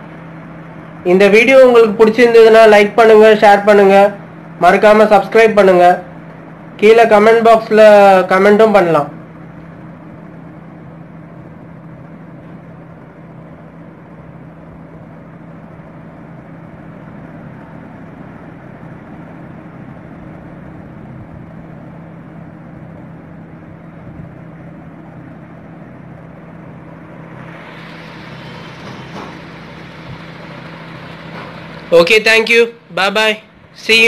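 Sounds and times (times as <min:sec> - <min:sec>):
low mechanical hum: 0:00.0 - 0:34.0
rushing background noise: 0:00.0 - 0:34.0.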